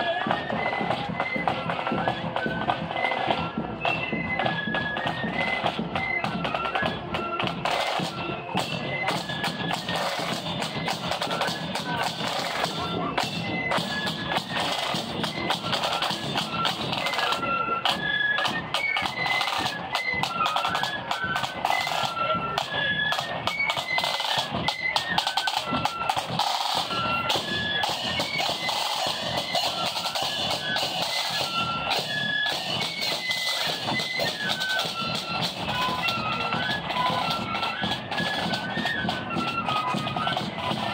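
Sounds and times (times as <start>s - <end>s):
flutes playing a marching melody: 0.0s - 40.9s
snare drum: 0.0s - 40.9s.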